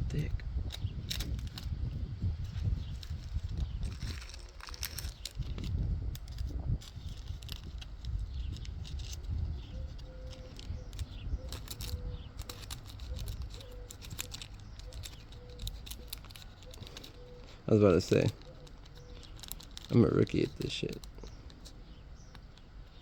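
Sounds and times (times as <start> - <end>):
low steady rumble: 0.0 - 23.0
trading cards clicking and rustling: 0.0 - 23.0.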